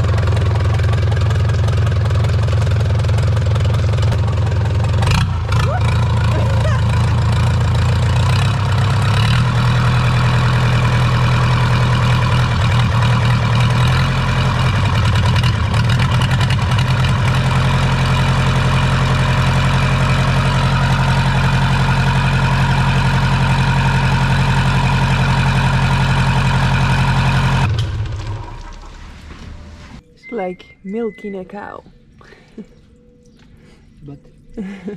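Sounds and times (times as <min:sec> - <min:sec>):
diesel engine idling: 0:00.0 - 0:31.1.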